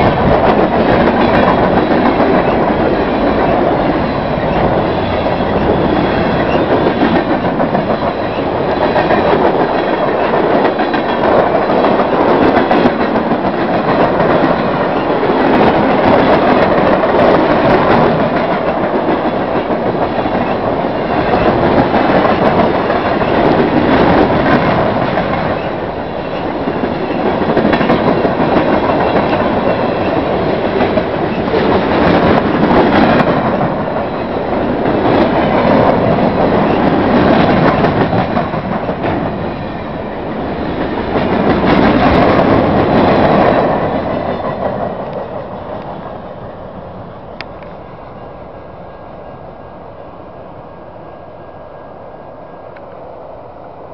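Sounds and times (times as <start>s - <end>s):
freight train rumbling and rattling: 0.0s - 53.9s.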